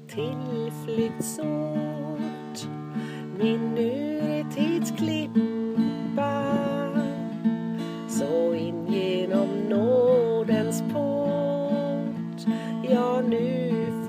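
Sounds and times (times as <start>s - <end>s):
strummed acoustic guitar: 0.0s - 14.0s
woman singing a hymn: 0.0s - 14.0s.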